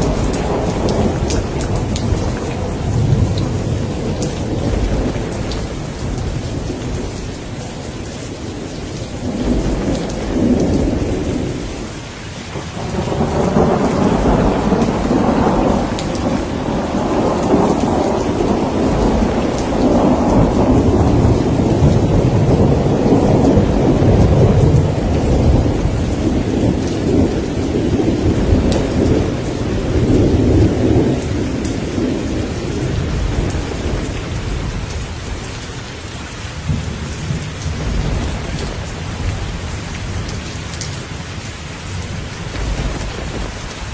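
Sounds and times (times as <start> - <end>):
rolling thunder: 0.0 - 43.9
steady rain: 0.0 - 43.9.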